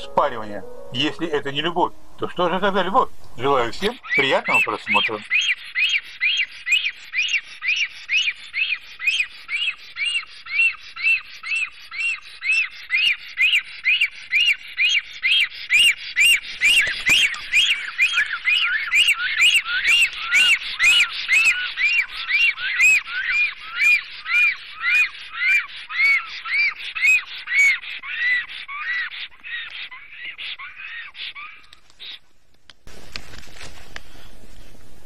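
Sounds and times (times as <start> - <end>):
lower whistled bird calls: 4.0 - 32.2
storks whistling calls: 4.0 - 32.2.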